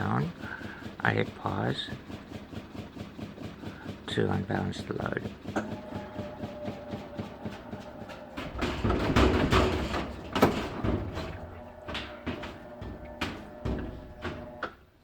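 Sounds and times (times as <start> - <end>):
laundry rustling in drum: 0.0 - 14.8.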